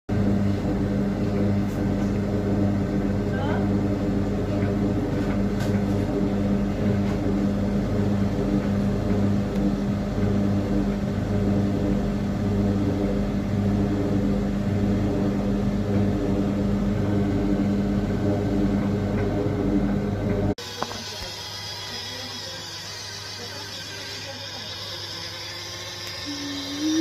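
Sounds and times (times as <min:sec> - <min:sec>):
washing machine motor humming: 0:00.1 - 0:27.0.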